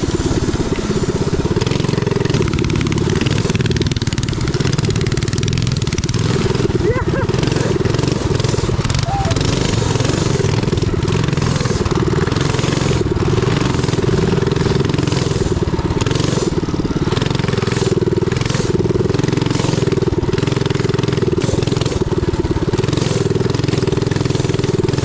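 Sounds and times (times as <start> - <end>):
minibike engine running: 0.0 - 25.0.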